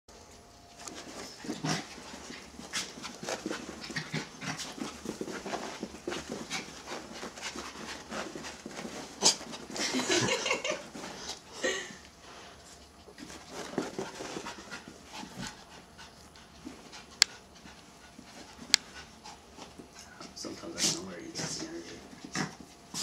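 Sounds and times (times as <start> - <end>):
dogs play-fighting: 0.2 - 23.0
dog panting: 0.9 - 9.9, 12.5 - 23.0.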